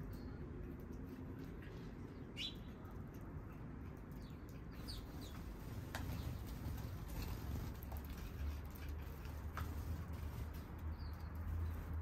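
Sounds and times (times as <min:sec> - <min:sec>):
low hum of city noise: 0:00.0 - 0:12.0
small birds chirping: 0:00.0 - 0:12.0.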